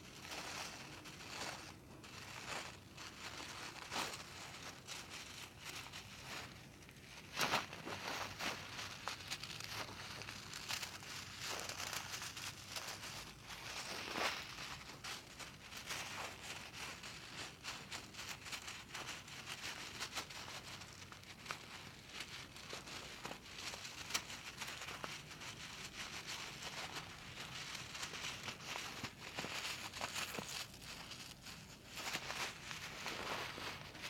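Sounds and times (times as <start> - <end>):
crinkling and rustling: 0.0 - 34.0.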